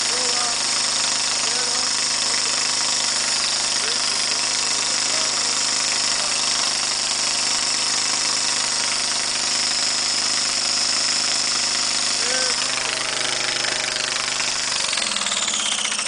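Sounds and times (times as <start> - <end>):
riding mower engine running: 0.0 - 16.0.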